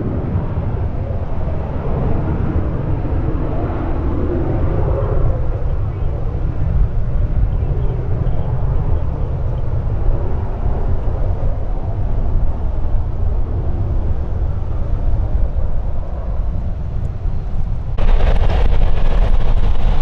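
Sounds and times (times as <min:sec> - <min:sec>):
jet airliners noise: 0:00.0 - 0:20.0
wind buffeting microphone: 0:00.0 - 0:20.0.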